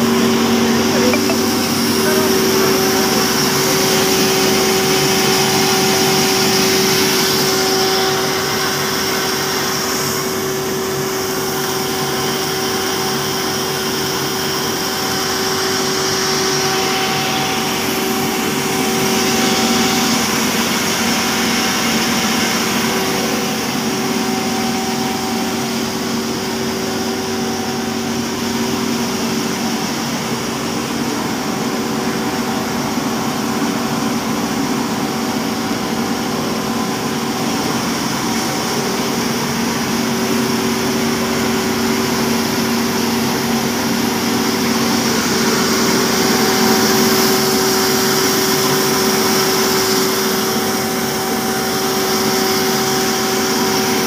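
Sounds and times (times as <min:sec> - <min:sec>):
grinder machine running: 0:00.0 - 0:54.0.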